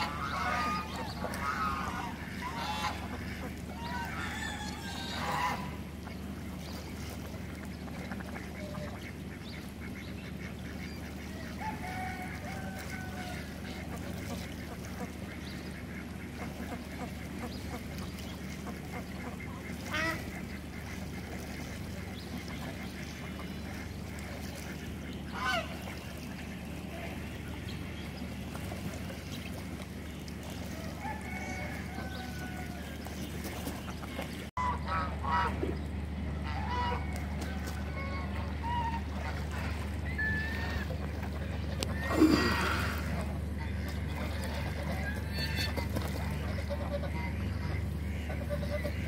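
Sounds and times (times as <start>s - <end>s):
geese honking: 0.0s - 49.0s
steady low hum: 0.0s - 49.0s.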